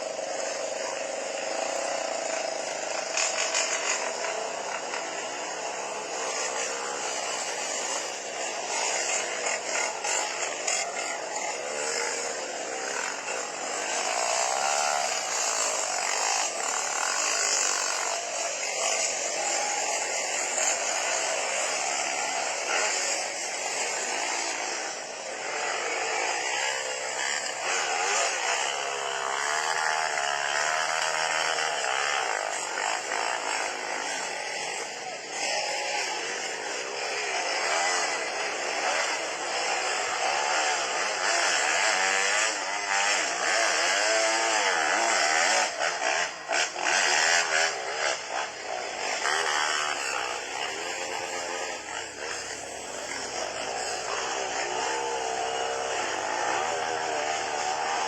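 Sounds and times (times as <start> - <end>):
motorcycle engines revving high: 0.0 - 58.0.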